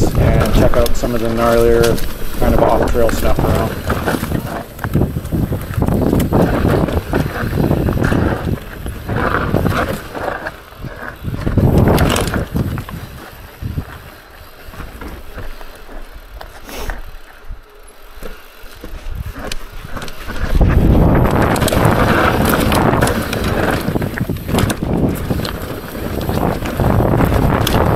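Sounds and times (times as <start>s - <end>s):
wind on microphone: 0.0s - 14.2s, 18.8s - 27.9s
mountain bike rolling over rough ground: 0.0s - 27.9s.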